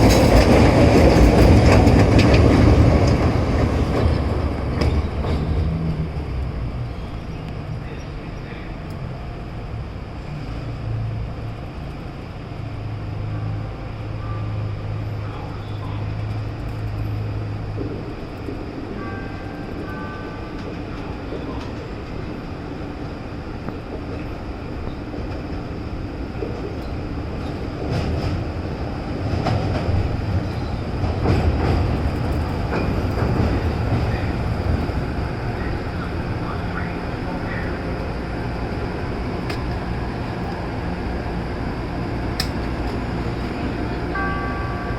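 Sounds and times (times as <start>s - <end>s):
train wheels clicking on rails: 0.0s - 7.8s, 16.2s - 44.7s
train low hum: 0.0s - 44.9s.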